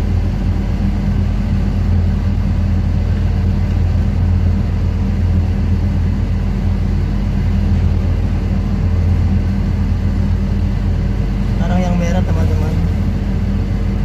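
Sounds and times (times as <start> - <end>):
ship machinery hum: 0.0 - 14.0.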